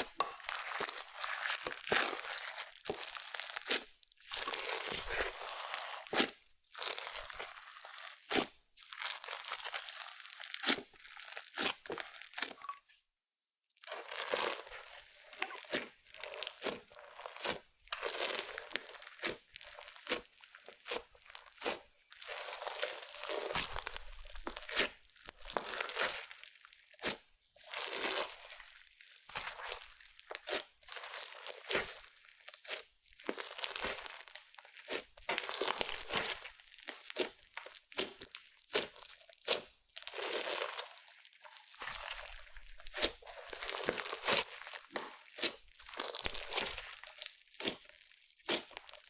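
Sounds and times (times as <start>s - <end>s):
slime squishing and popping: 0.0s - 12.7s, 13.9s - 49.0s.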